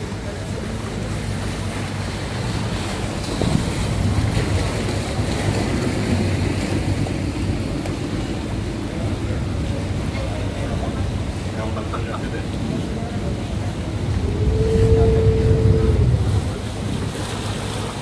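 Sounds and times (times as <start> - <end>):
boat engine droning: 0.0 - 18.0
passing boat churning wake: 0.0 - 18.0
rushing water: 0.0 - 18.0
wind buffeting microphone: 0.0 - 18.0.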